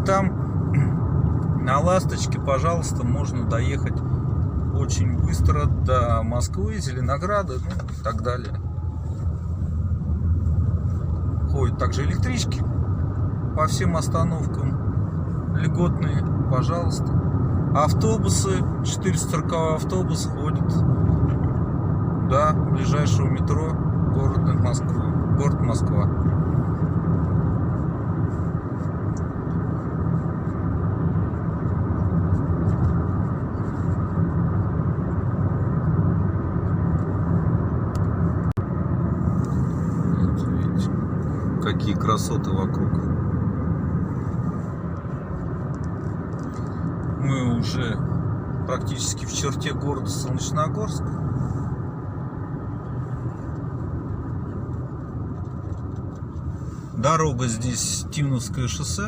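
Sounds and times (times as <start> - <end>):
car interior road noise: 0.0 - 59.0.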